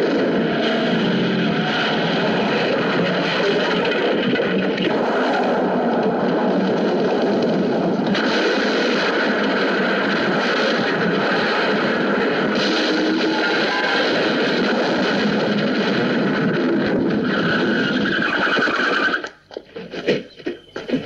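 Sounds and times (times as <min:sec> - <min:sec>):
car crashing down a slope: 0:00.0 - 0:19.1.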